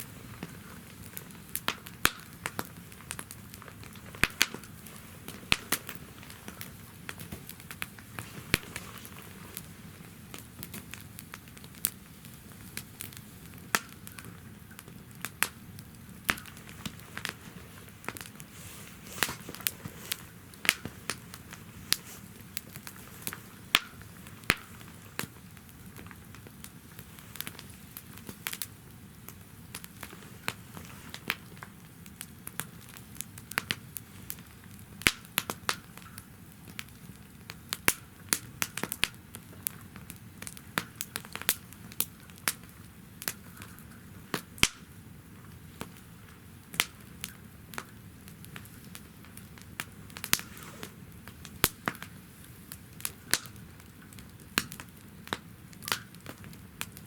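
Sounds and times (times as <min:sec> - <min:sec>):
low steady hiss: 0:00.0 - 0:57.0
wood fire crackling and popping: 0:00.0 - 0:57.0.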